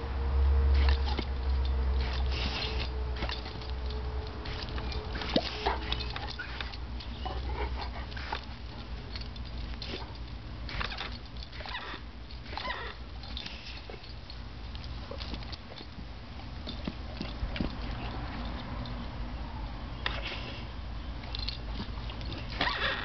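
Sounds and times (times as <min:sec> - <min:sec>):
dog mouth and paw noises: 0:00.8 - 0:19.1, 0:21.2 - 0:23.0.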